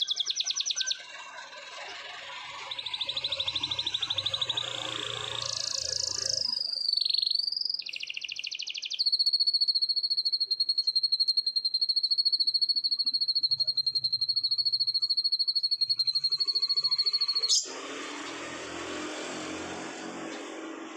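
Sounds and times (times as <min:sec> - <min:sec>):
canary singing trills: 0:00.0 - 0:17.8.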